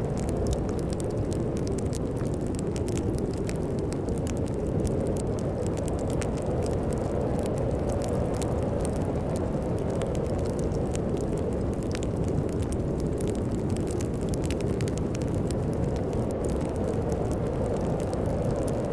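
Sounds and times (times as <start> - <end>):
snowstorm wind roaring: 0.0 - 18.9
wood fire crackling and popping: 0.0 - 18.9.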